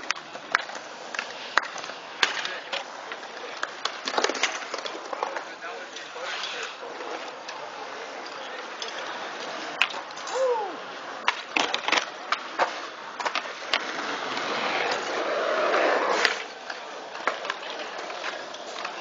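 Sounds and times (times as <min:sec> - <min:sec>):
bike clicks and knocks: 0:00.0 - 0:07.6, 0:08.2 - 0:10.5, 0:11.2 - 0:15.1, 0:16.2 - 0:19.0
bike tyres rolling on concrete: 0:00.0 - 0:19.0.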